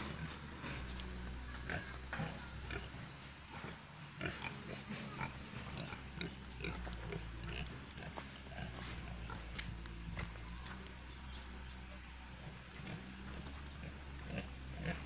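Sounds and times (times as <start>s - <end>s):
pigs grunting: 0.0s - 10.3s, 12.3s - 15.0s.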